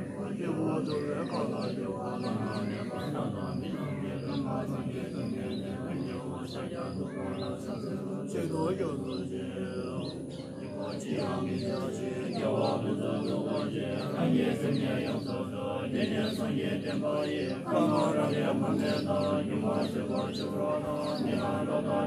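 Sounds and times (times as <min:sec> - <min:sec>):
group chanting prayers in unison: 0:00.0 - 0:22.0.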